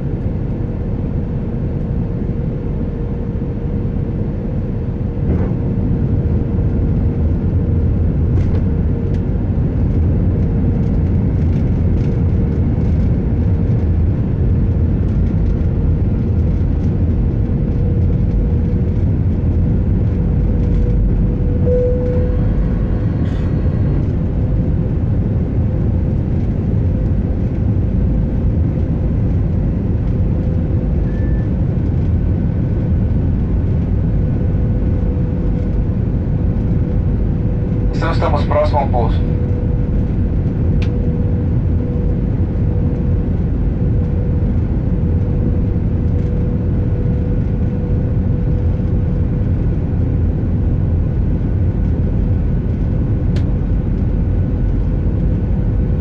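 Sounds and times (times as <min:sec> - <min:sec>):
engine and airflow rush: 0:00.0 - 0:56.0
mid-pitched hum: 0:00.0 - 0:56.0.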